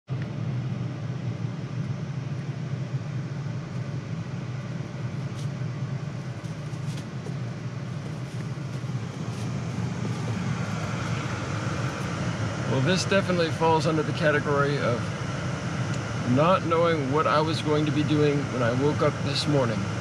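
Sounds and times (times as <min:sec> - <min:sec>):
car cabin hum: 0:03.4 - 0:20.0.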